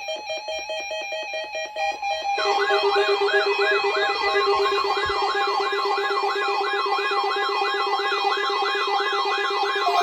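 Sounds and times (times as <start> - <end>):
siren-like warble: 1.6 - 10.0.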